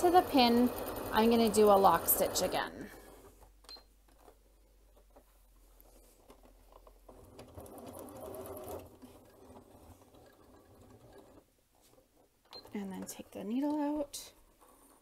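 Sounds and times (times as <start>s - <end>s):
sewing machine stitching: 0.0s - 3.5s, 6.4s - 15.0s.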